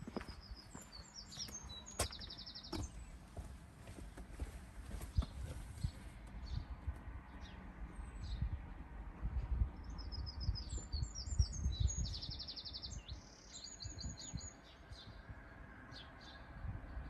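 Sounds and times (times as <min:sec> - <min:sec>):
songbird singing: 0:00.0 - 0:08.8, 0:09.6 - 0:17.0.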